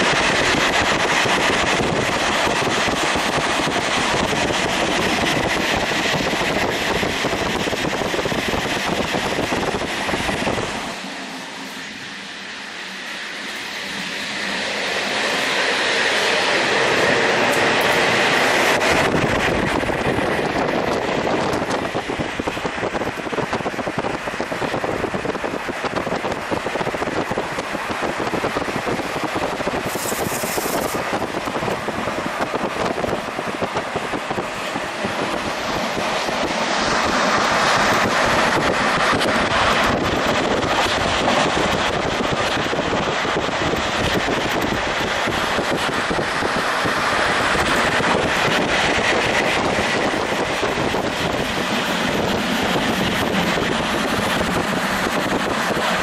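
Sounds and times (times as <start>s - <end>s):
train wheels clattering on rails: 0.0s - 12.4s, 13.2s - 56.0s
wind rushing across microphone: 0.0s - 56.0s.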